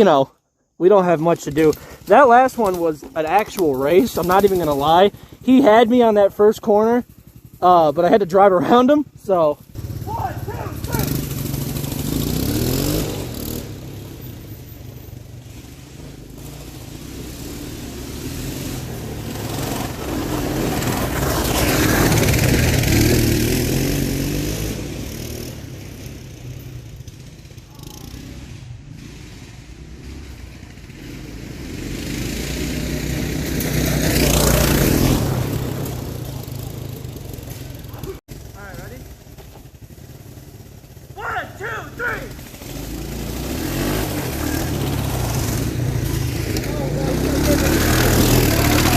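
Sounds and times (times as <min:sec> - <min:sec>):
small engines racing past: 0:01.4 - 0:06.7, 0:08.0 - 0:48.9.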